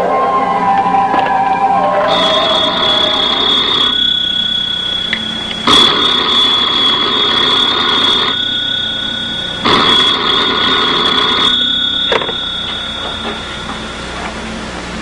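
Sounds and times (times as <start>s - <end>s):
telephone bell ringing: 2.1s - 15.0s.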